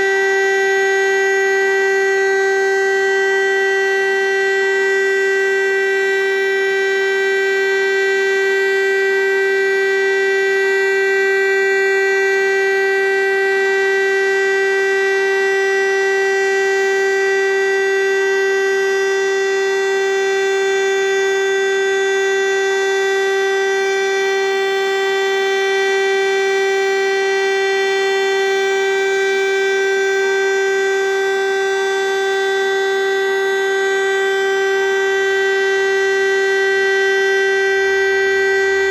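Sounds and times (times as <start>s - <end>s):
siren steady tone: 0.0s - 38.9s.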